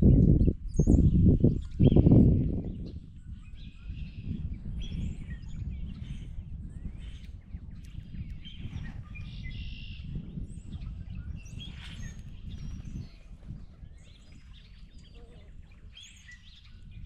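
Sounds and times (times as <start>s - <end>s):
wild birds chirping: 0.9s - 17.0s.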